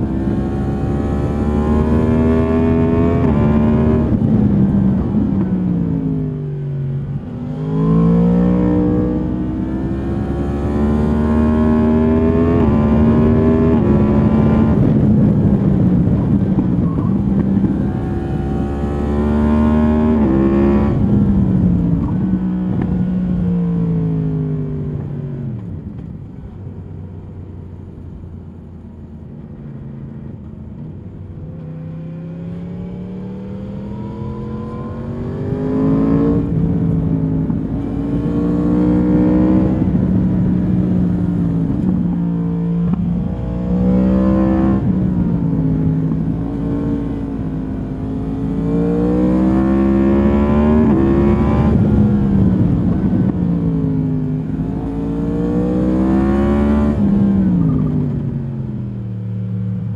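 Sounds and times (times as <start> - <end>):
motorcycle engine accelerating: 0.0 - 26.6, 27.7 - 59.9.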